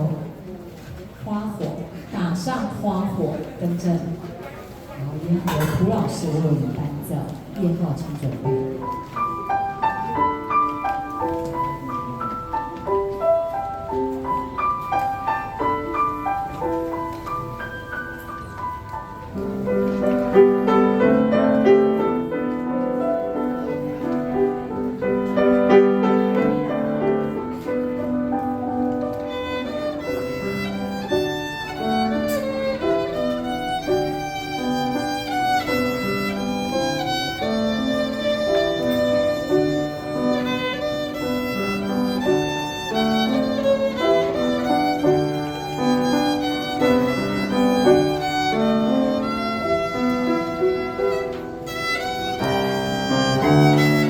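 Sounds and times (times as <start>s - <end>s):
piano accompaniment: 0.0s - 54.0s
violin melody: 7.6s - 54.0s.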